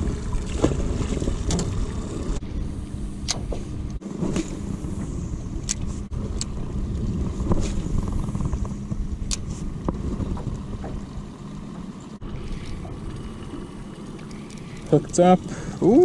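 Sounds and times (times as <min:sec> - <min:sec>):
outboard motor humming: 0:00.0 - 0:16.0.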